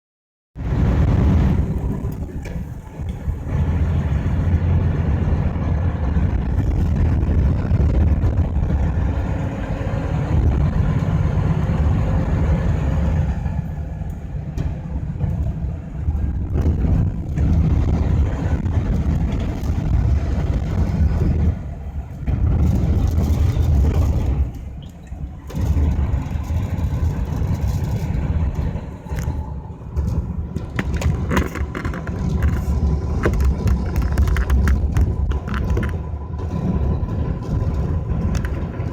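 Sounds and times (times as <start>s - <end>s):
road noise: 0.6s - 38.9s
strong wind buffeting: 0.6s - 38.9s
truck engine rumble: 0.6s - 38.9s.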